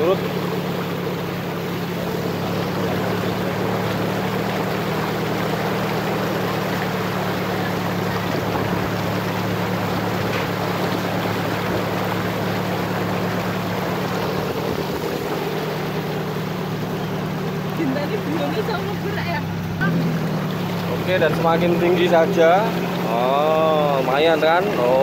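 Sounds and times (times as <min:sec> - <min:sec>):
jeep engine running: 0:00.0 - 0:25.0
water sloshing against vehicle: 0:00.0 - 0:25.0.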